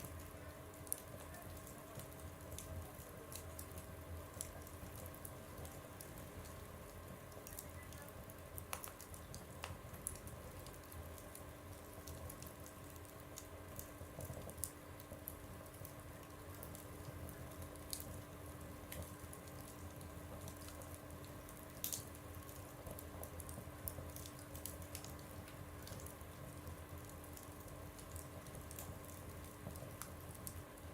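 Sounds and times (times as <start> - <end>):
wood crackling and popping: 0.0 - 30.9
wood fire burning in stove: 0.0 - 30.9.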